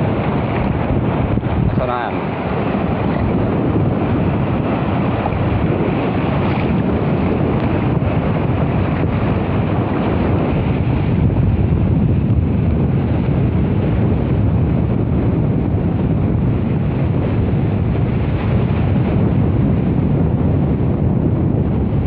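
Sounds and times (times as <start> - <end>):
water noise: 0.0 - 22.0
wind buffeting microphone: 0.0 - 22.0.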